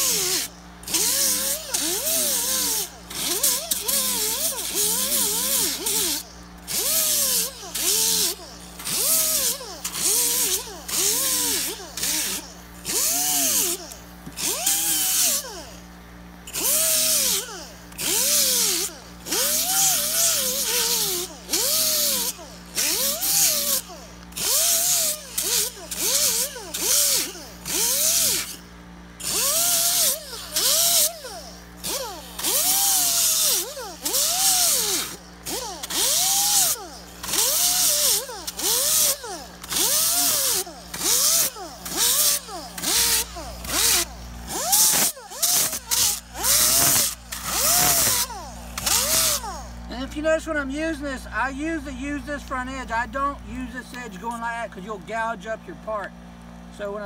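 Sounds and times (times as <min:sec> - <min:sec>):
air grinder sanding foam: 0:00.0 - 0:55.0.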